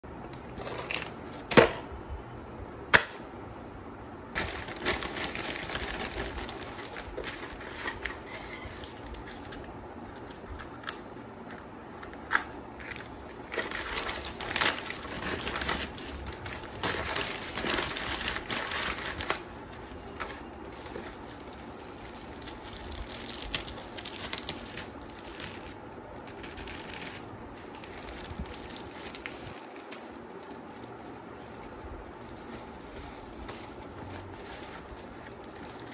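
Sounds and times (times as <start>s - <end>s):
paper mailer rustling: 4.4s - 10.8s, 11.6s - 35.9s.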